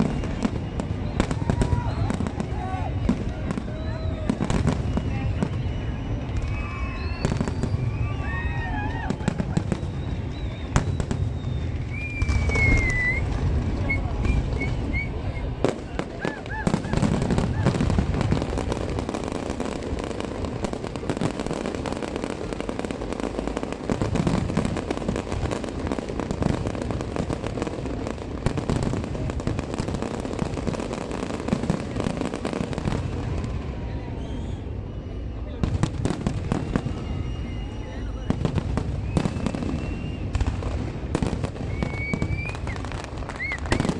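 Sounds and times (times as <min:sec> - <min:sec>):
fireworks bangs and crackling: 0:00.0 - 0:43.9
whistling firework shell: 0:00.0 - 0:43.9.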